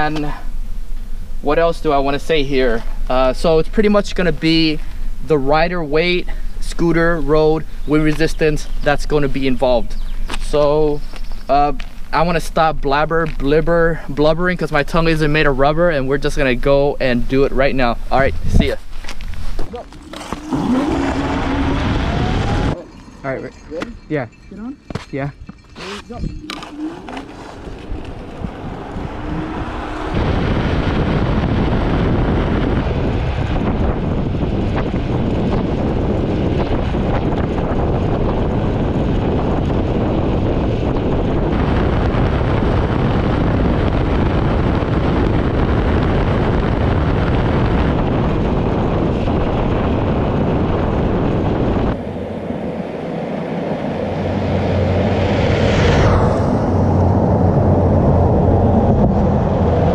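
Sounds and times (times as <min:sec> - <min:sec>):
roadside sound: 0:00.0 - 0:59.9
wind rushing over microphone: 0:00.0 - 0:59.9.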